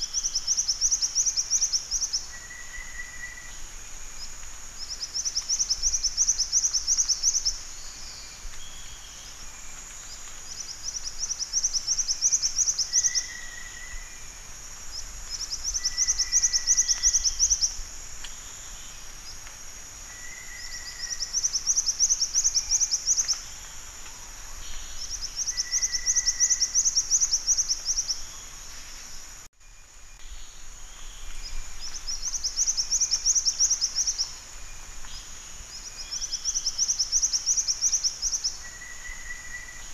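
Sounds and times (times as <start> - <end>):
steady high background hiss: 0.0 - 39.9.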